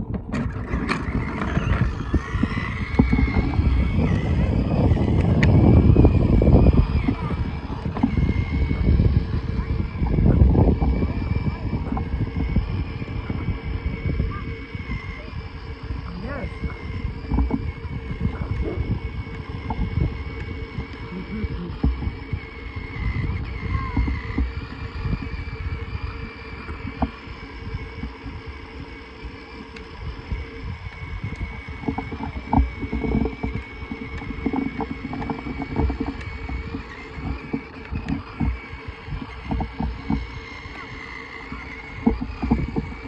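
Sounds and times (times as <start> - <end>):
electric motor whine: 0.0 - 43.0
plastic wheels rumbling on concrete: 0.0 - 43.0.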